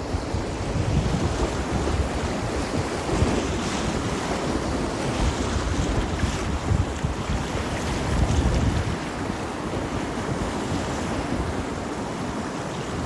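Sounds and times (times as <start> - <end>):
rushing river water: 0.0 - 13.0
wind rumbling on microphone: 0.0 - 13.0.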